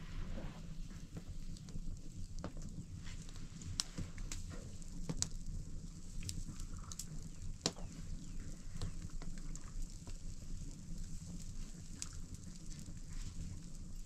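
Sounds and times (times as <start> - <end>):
wood fire crackling: 0.0 - 14.0
sharp fire pops: 1.1 - 14.0.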